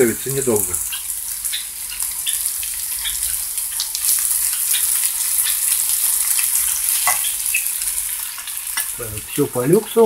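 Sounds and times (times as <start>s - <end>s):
potatoes sizzling in hot oil: 0.0s - 10.0s.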